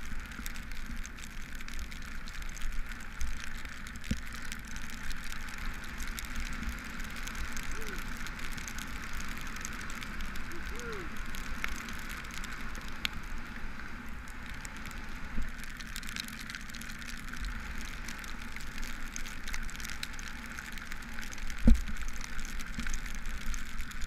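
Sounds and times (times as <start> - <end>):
raindrops ticking on camera: 0.0 - 24.0
tyres hissing on wet pavement: 0.0 - 24.0.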